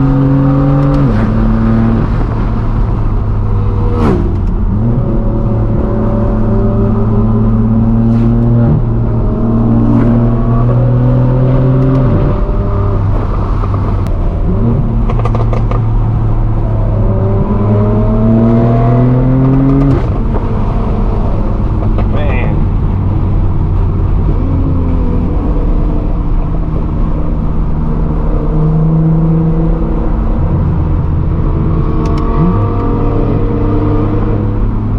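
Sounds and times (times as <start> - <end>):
car exhaust accelerating through gears: 0.0 - 34.9.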